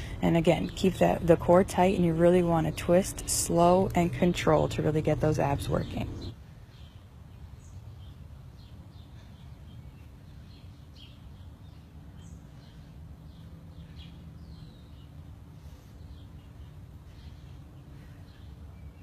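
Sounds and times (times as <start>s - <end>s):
birds chirping: 0.0s - 19.0s
low background hum: 0.0s - 19.0s.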